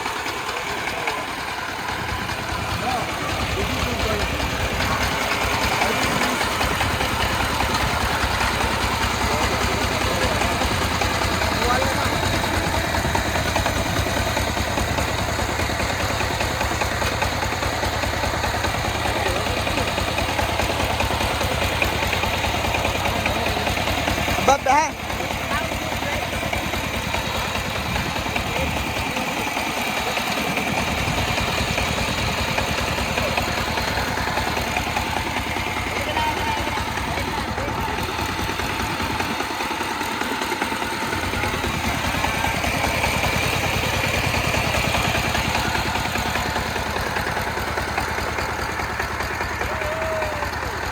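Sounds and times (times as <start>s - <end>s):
small tractor engine running: 0.0s - 50.9s.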